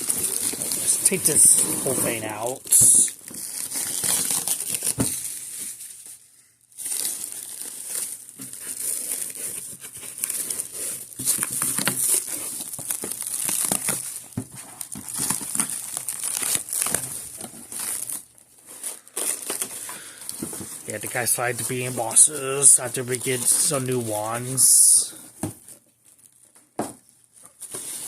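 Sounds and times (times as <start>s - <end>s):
packaging crinkling and rustling: 0.0s - 28.0s.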